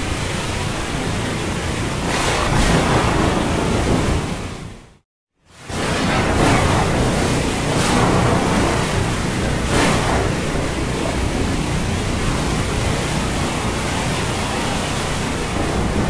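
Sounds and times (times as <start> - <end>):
heavy rain: 0.0 - 16.0
surf: 0.0 - 16.0.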